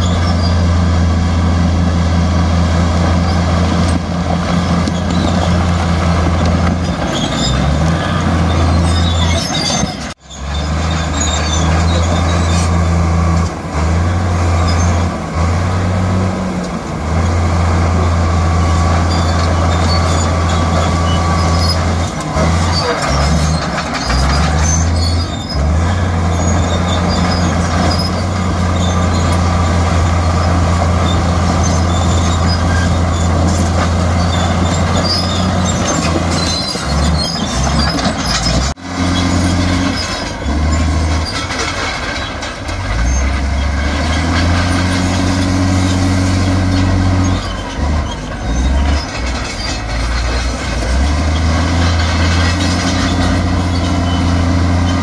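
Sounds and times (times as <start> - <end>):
heavy diesel engine working: 0.0 - 55.0.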